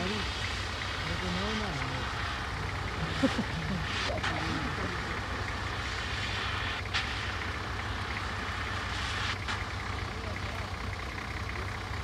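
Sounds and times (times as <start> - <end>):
vehicle engines droning: 0.0 - 12.0.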